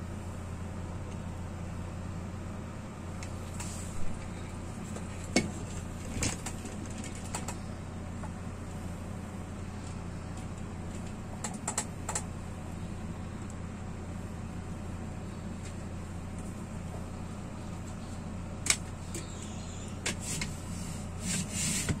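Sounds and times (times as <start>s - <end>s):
kerosene stove humming: 0.0s - 22.0s.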